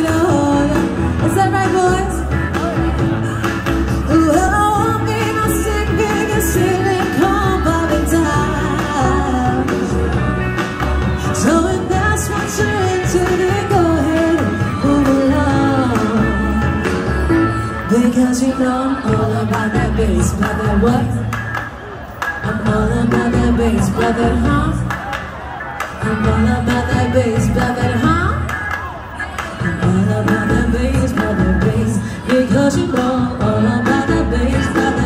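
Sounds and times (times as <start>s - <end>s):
pop song with singer: 0.0s - 35.0s.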